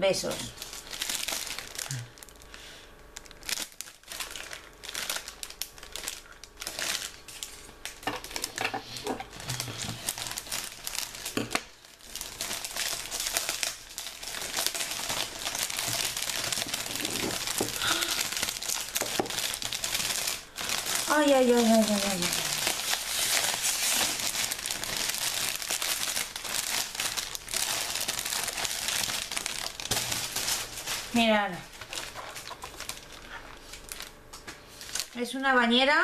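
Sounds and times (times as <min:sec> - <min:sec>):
metallic gift wrap crinkling: 0:00.0 - 0:35.4.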